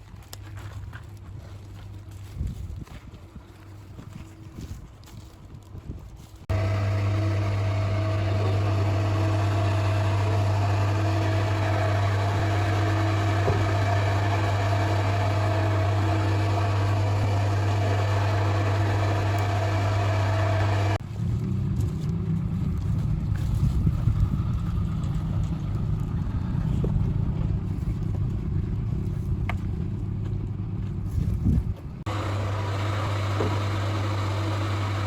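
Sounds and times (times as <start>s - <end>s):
motor humming: 6.5s - 35.0s.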